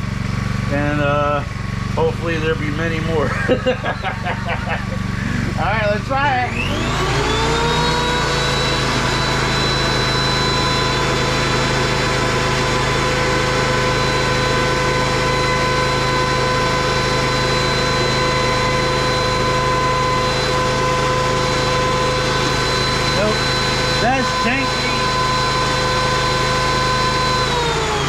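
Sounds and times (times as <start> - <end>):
thickness planer whining: 0.0 - 28.0.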